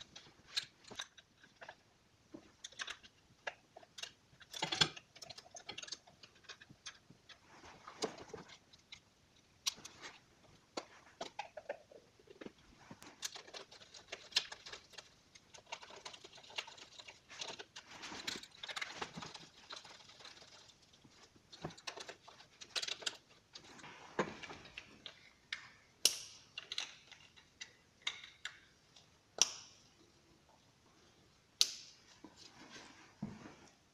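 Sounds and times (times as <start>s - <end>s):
plastic parts clicking and rattling: 0.0s - 29.6s.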